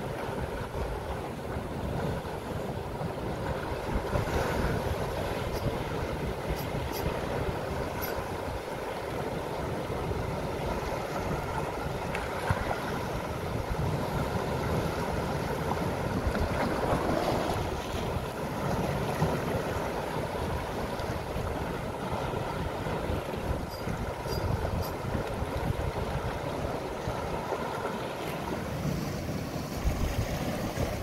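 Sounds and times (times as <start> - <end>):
sea waves washing over rocks: 0.0 - 31.0
wind buffeting microphone: 0.0 - 31.0.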